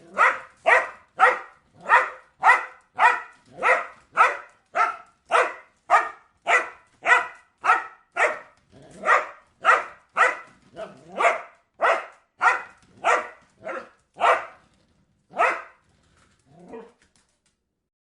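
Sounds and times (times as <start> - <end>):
dog barking: 0.0 - 14.6, 15.3 - 15.8.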